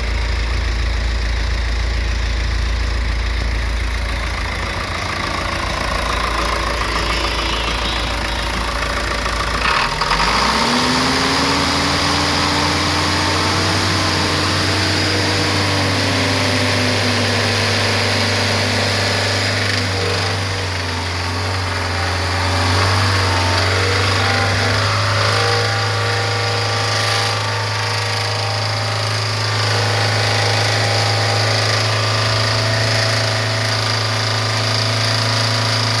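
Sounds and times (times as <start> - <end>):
engine whine: 0.0 - 34.9
diesel truck engine running: 0.0 - 35.6.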